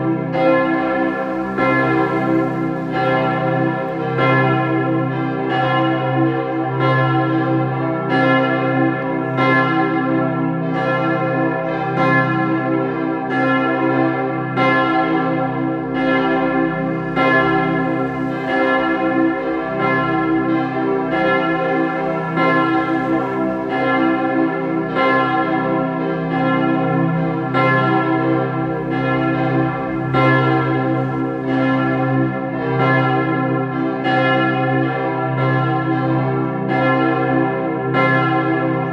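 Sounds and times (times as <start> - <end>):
tower bells ringing: 0.0 - 38.9.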